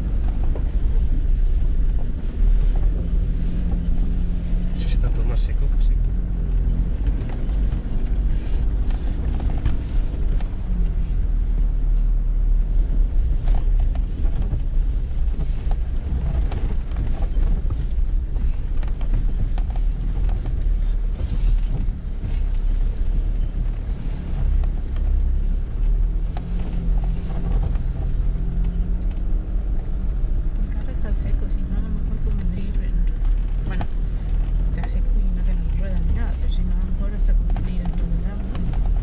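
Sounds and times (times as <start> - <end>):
engine and tyre rumble: 0.0 - 39.0
wind buffeting microphone: 6.0 - 39.0.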